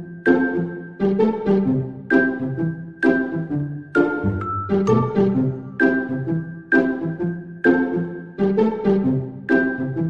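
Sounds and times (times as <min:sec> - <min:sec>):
keyboard tune with steady beat: 0:00.0 - 0:10.0.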